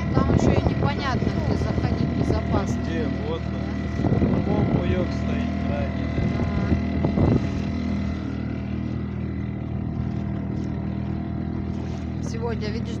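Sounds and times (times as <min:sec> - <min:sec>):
motorboat engine droning: 0:00.0 - 0:13.0
water and wind hiss: 0:00.0 - 0:13.0.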